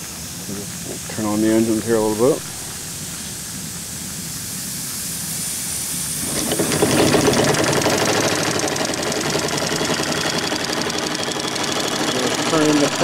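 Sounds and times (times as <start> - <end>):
small steam engines running: 0.0 - 13.0
steam hissing: 0.0 - 13.0.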